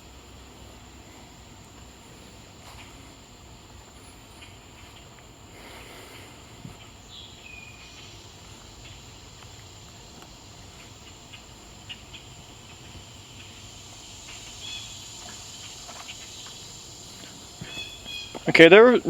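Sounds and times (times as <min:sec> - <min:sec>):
cicadas and crickets droning: 0:00.0 - 0:19.0.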